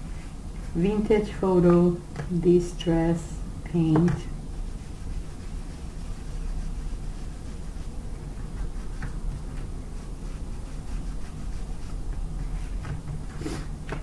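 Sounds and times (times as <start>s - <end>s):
foam dauber rubbing on paper: 0.0s - 14.0s
steady low hum: 0.0s - 14.0s.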